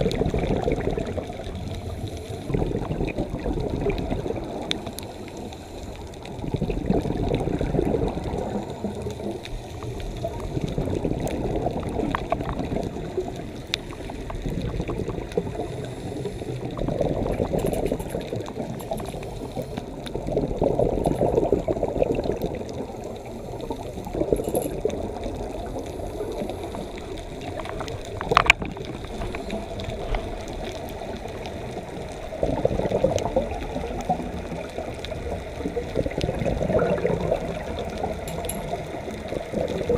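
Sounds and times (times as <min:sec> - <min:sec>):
scuba bubbles gurgling underwater: 0:00.0 - 0:39.9.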